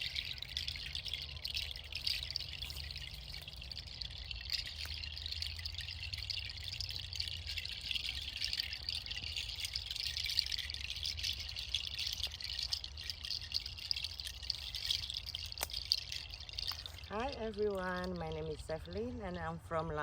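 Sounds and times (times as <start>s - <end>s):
seed pod chime clattering: 0.0s - 20.0s.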